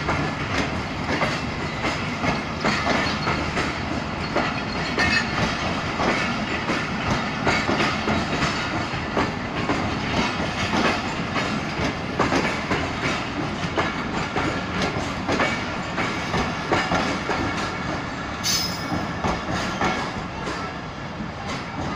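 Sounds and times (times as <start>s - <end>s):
train wheels clicking over rail joints: 0.0s - 21.9s.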